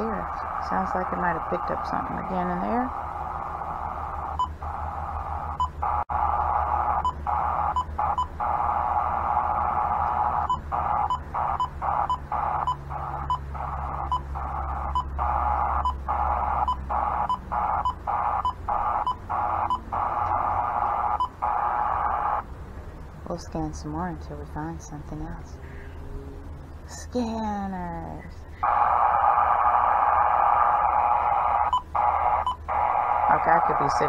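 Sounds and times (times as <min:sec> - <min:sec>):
radio static hiss: 0:00.0 - 0:22.4, 0:28.6 - 0:34.0.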